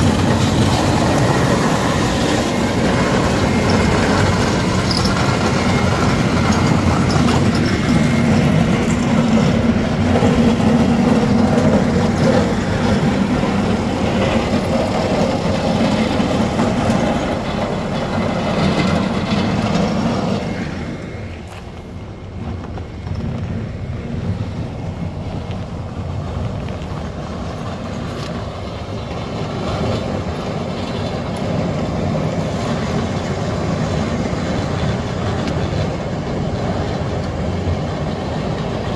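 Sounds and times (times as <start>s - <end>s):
diesel engine running: 0.0s - 38.4s
tractor engine: 0.0s - 38.9s.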